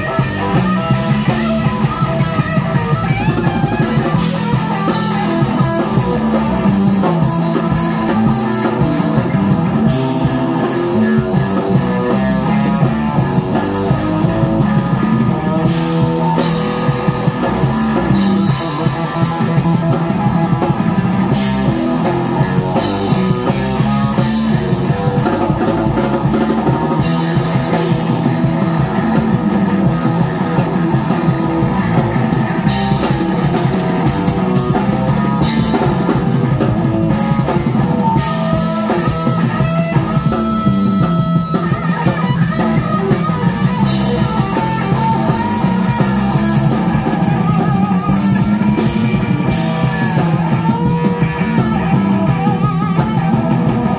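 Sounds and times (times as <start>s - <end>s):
drum kit beat: 0.0s - 53.9s
electric guitar: 0.0s - 53.9s.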